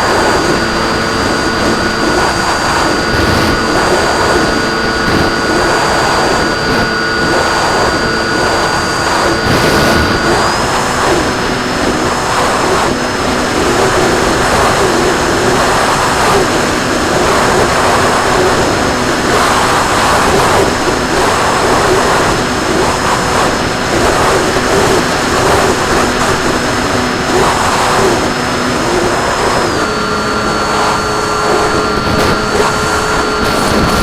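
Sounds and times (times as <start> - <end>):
gusting wind rush: 0.0 - 34.0
model plane motor and propeller hum: 0.0 - 34.0.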